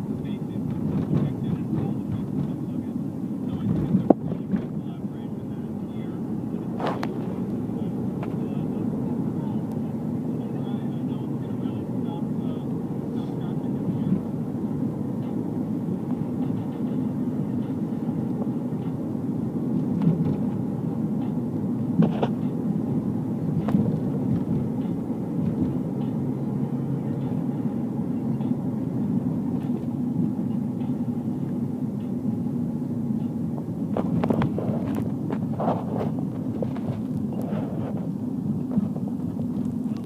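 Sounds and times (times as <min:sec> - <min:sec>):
car cabin road and engine rumble: 0:00.0 - 0:40.0.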